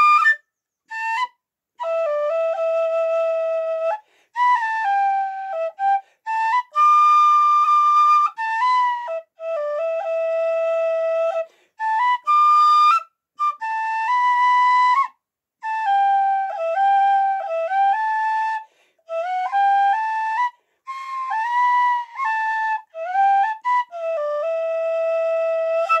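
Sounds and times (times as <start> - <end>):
tin whistle melody: 0.0 - 26.0.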